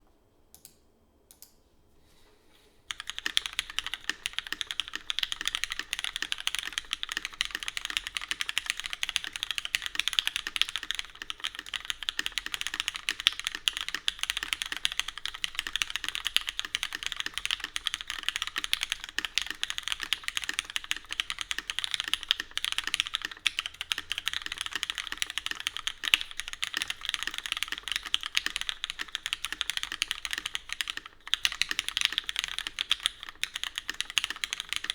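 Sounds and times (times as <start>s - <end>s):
typing on mechanical keyboard: 2.9s - 34.9s.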